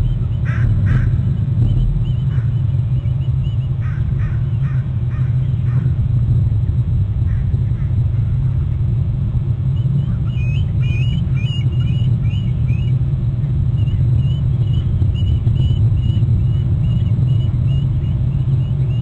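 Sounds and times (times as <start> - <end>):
eagles calling: 0.0 - 6.0, 9.8 - 19.0
low rumble: 0.0 - 19.0.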